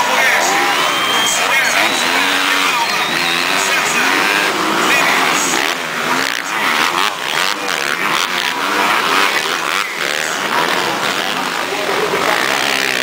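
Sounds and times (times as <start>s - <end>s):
motocross engines revving: 0.0s - 13.0s.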